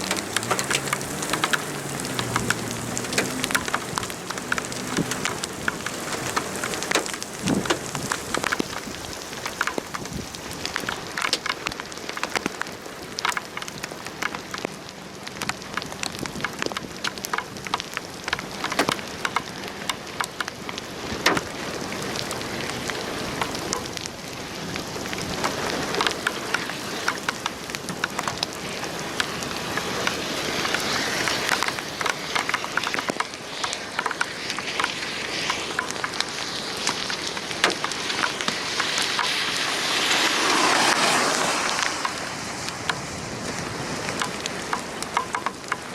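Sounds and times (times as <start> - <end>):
rain on a hard surface: 0.0 - 45.9.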